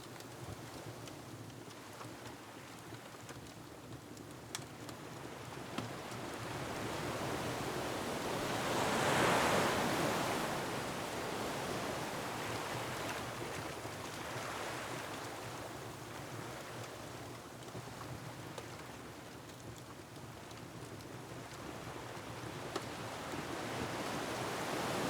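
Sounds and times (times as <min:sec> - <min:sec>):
faint wood fire crackles: 0:00.0 - 0:25.0.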